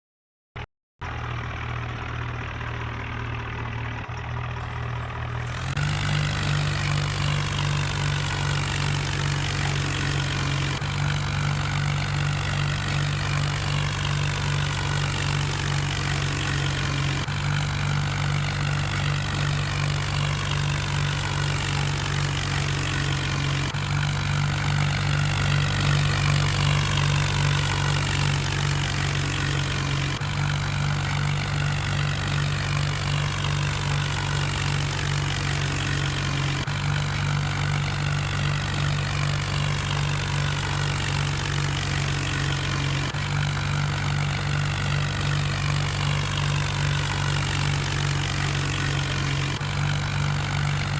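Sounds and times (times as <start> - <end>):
tractor diesel engine idling: 1.0 - 50.9.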